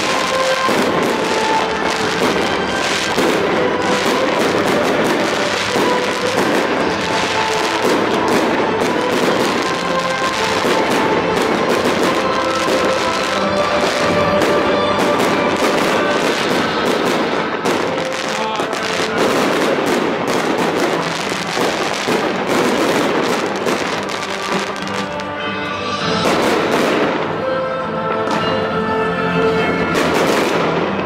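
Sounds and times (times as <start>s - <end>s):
fireworks bursting and crackling: 0.0s - 27.5s, 29.9s - 31.0s
music: 0.0s - 31.0s.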